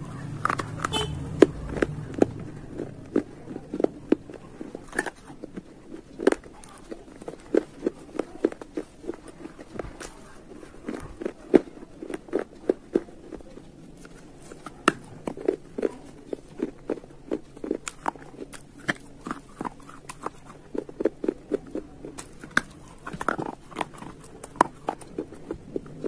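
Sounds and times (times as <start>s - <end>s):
slate crunching while chewed: 0.0s - 26.0s.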